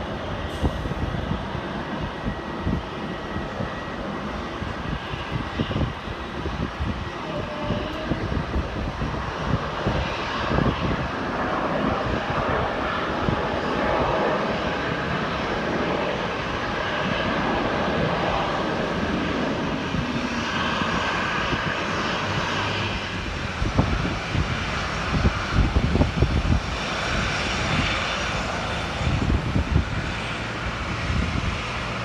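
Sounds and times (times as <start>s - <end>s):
jet engines roaring: 0.0s - 32.0s
wind buffeting microphone: 0.0s - 32.0s.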